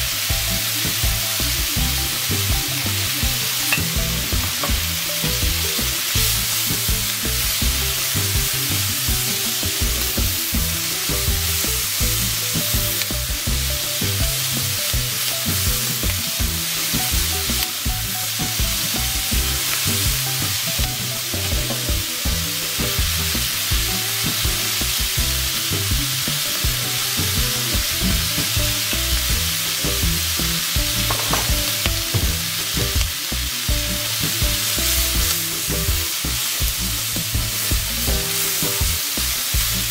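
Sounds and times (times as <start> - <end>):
vegetables sizzling in a pan: 0.0 - 39.9.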